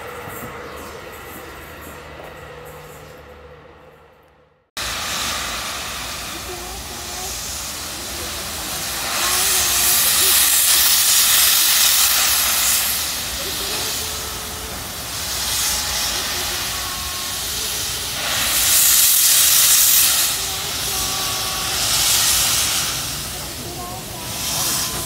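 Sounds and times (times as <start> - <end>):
steam locomotive drain cocks hissing: 4.8 - 25.0.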